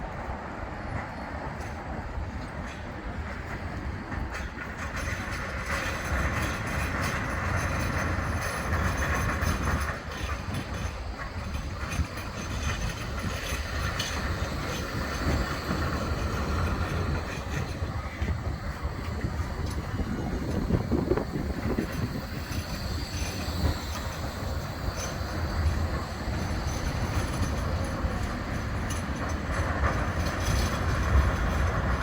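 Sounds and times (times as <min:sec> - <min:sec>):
tram wheels rumbling on rail: 0:00.0 - 0:32.0.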